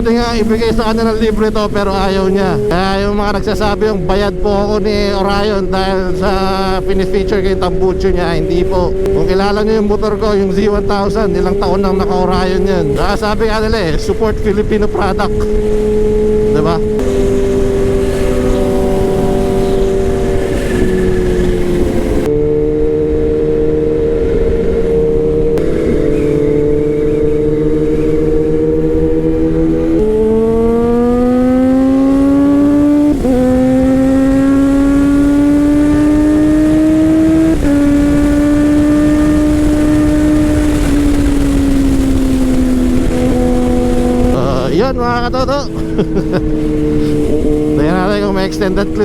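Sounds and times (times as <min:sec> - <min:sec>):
gear changes: 0:00.0 - 0:49.0
motorcycle engine revving: 0:00.0 - 0:49.0.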